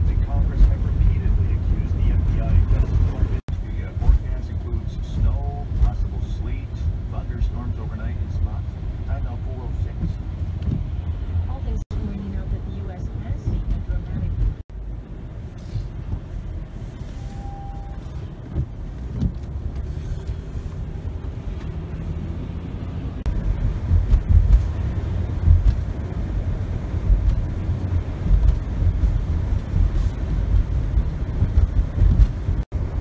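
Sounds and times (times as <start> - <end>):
car road rumble on slush: 0.0 - 33.0.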